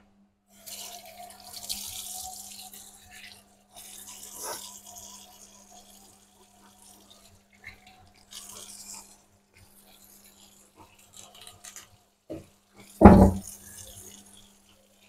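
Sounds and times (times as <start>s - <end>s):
tap water running into steel sink: 0.6s - 14.5s.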